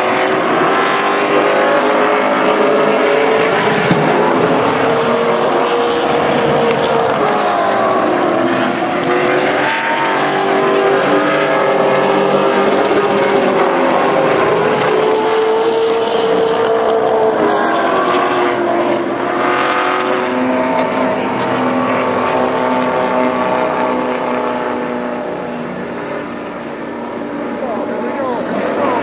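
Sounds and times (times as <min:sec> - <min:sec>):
stock cars racing past: 0:00.0 - 0:29.0.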